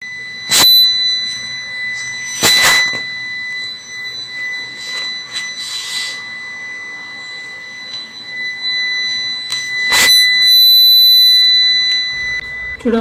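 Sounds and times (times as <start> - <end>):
continuous high-pitched warning beep: 0.0 - 13.0.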